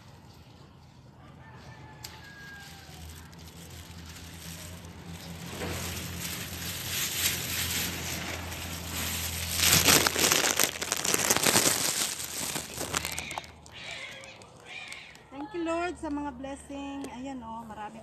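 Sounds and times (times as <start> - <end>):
vines and leaves rustling: 0.0 - 15.6.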